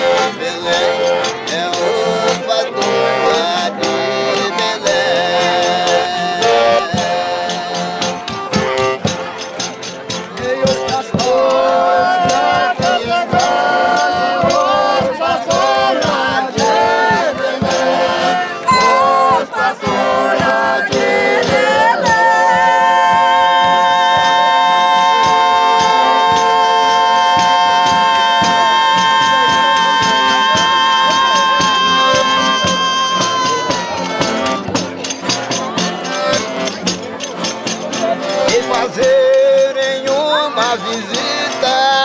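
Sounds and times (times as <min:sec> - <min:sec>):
fast hand percussion: 0:00.0 - 0:42.0
folk singing: 0:00.0 - 0:42.0.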